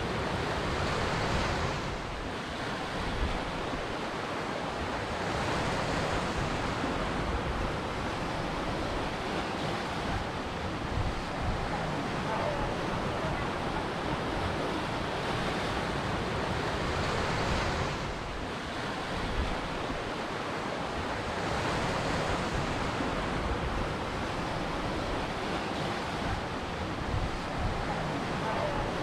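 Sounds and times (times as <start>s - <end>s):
waves breaking: 0.0s - 29.0s.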